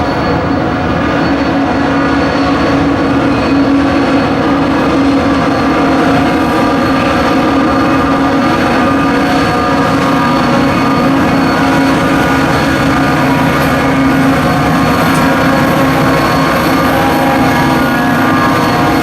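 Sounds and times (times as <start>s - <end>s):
diesel locomotive engine drone: 0.0s - 19.0s
faint high whine: 0.0s - 19.0s.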